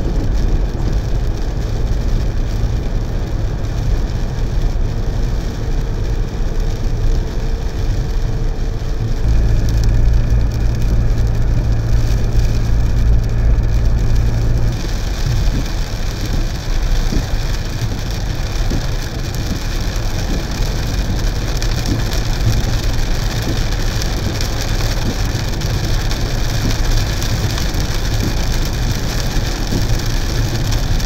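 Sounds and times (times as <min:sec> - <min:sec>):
engine and tyre rumble: 0:00.0 - 0:31.0
rain on windscreen: 0:00.0 - 0:31.0
tyres hissing on wet road: 0:00.0 - 0:31.0.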